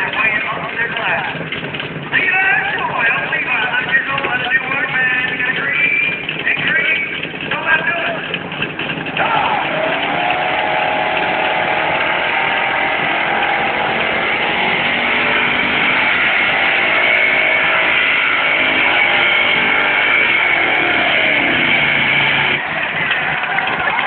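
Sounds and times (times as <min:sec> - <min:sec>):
engine running hard with whine: 0:00.0 - 0:24.0.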